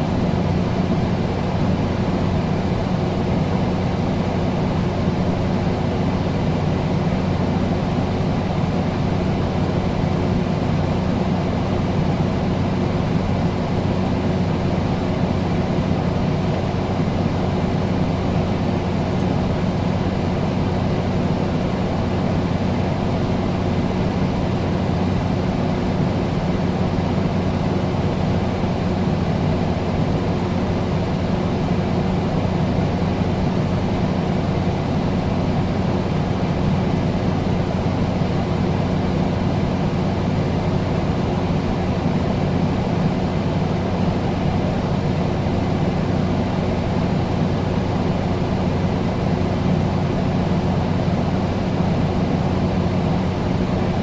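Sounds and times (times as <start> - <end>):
air conditioner running: 0.0 - 54.0.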